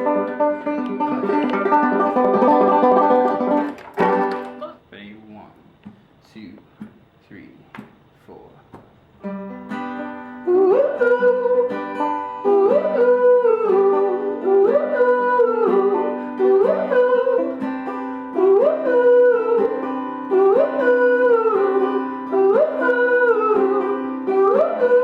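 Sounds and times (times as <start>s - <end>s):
acoustic guitar and banjo music: 0.0s - 4.8s, 9.2s - 25.0s.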